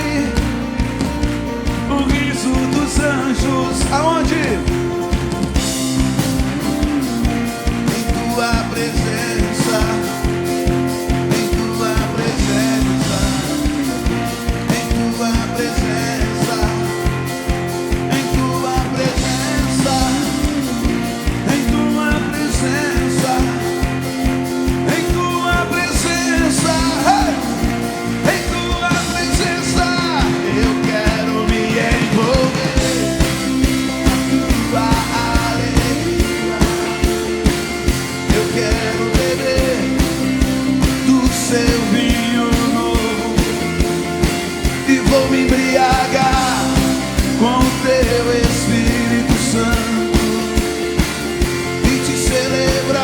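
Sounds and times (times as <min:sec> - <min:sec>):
live band playing upbeat song: 0:00.0 - 0:53.0
steady drum beat: 0:00.0 - 0:53.0
voices singing: 0:00.0 - 0:53.0.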